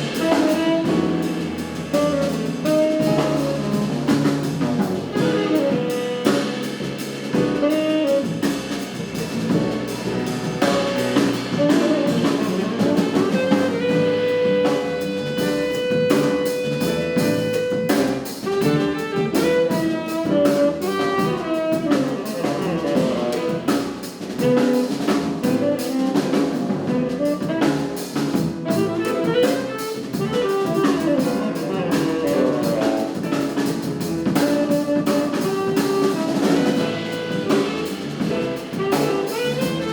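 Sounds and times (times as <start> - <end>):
jazz quartet playing: 0.0 - 39.9.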